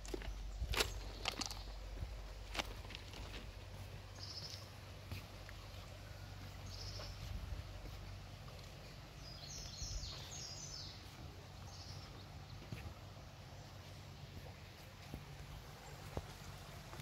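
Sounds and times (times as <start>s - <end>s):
faint low outdoor background noise: 0.0s - 17.0s
songbird singing: 0.0s - 17.0s.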